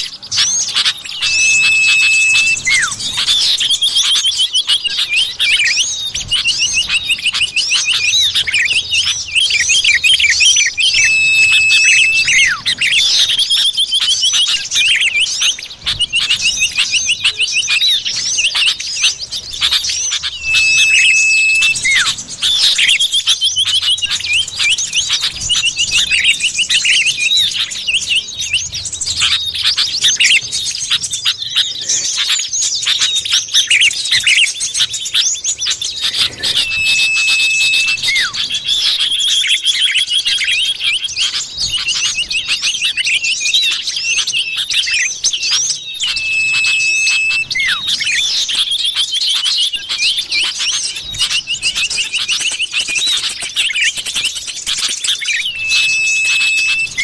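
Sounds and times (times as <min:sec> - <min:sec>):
birds chirping trills: 0:00.0 - 0:57.0
bird held whistle: 0:00.4 - 0:28.1, 0:36.0 - 0:40.9, 0:41.7 - 0:57.0.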